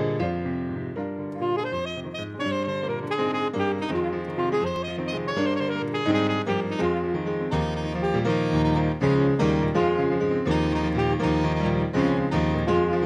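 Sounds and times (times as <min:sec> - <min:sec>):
keyboard chords: 0:00.0 - 0:13.0
alto saxophone melody: 0:01.4 - 0:13.0.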